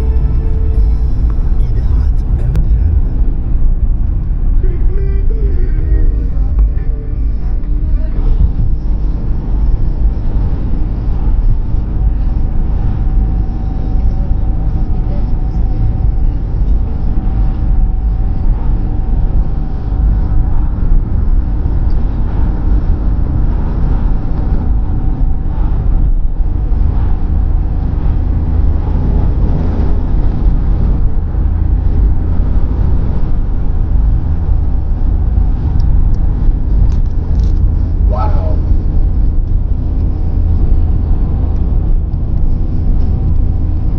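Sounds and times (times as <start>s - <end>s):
road and engine rumble in car cabin: 0.0s - 43.9s.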